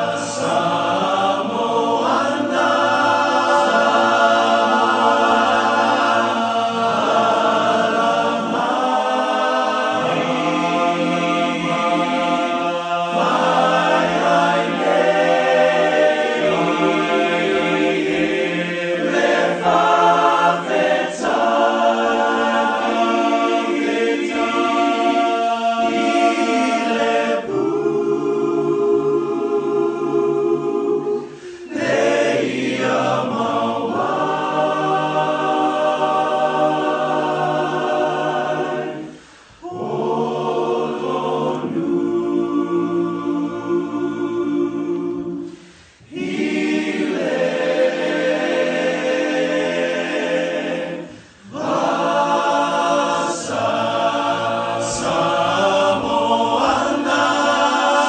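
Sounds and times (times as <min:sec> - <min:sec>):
male choir singing in harmony: 0:00.0 - 0:58.0.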